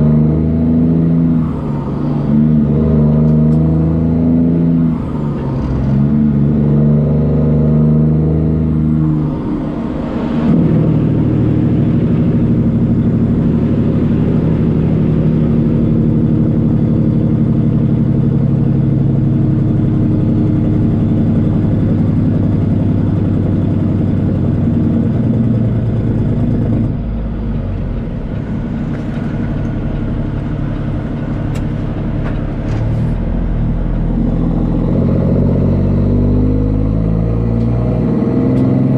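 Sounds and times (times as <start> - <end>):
diesel truck engine drone: 0.0 - 38.9.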